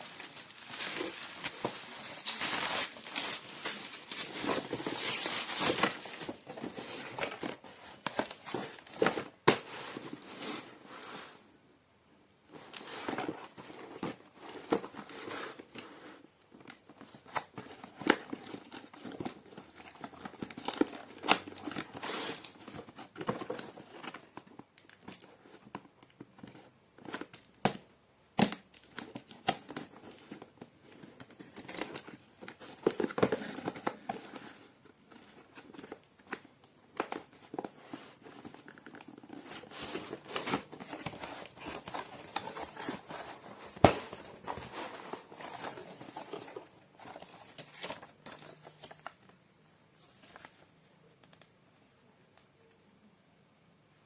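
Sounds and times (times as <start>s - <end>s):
rustling and crinkling: 0.0s - 11.6s, 12.4s - 51.5s.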